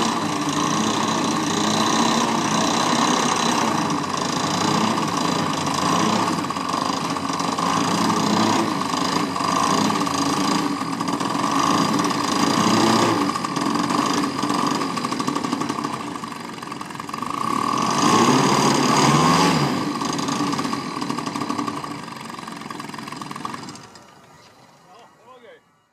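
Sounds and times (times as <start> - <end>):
model airplane engine revving: 0.0 - 25.5.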